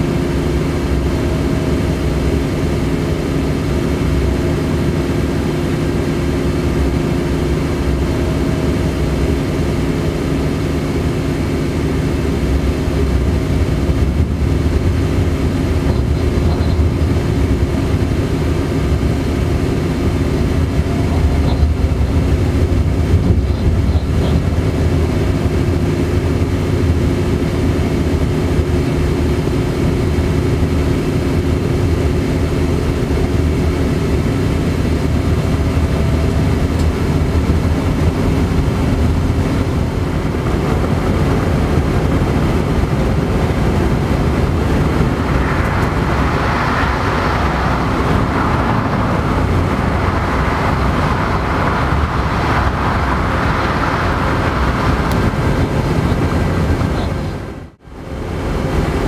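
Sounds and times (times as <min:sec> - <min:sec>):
train rumbling in tunnel: 0:00.0 - 0:59.0.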